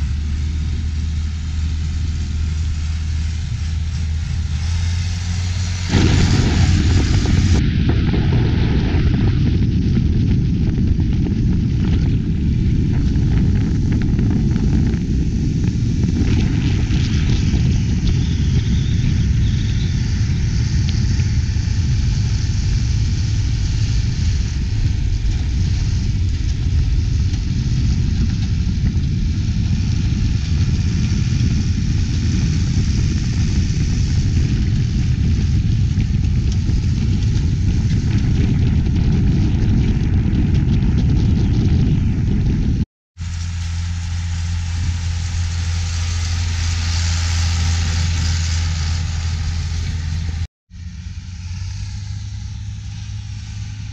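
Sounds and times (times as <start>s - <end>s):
drone propeller rumble: 0.0s - 53.9s
wind buffeting microphone: 0.0s - 53.9s.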